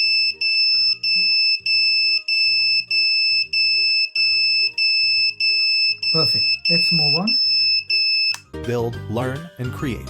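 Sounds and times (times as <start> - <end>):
electronic buzzer siren tone: 0.0 - 8.4
background music: 0.0 - 10.0.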